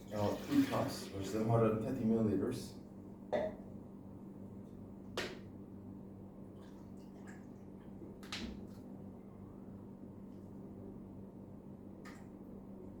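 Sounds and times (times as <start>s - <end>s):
steady low electrical hum: 0.0s - 13.0s.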